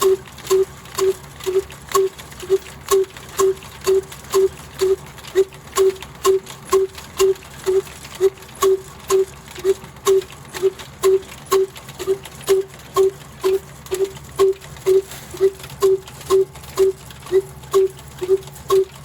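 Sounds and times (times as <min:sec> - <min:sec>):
old diesel engine running slowly: 0:00.0 - 0:19.0.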